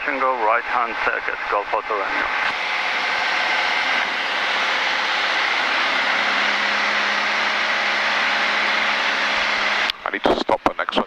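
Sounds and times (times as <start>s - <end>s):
aircraft engine drone in cockpit: 0.0s - 10.9s.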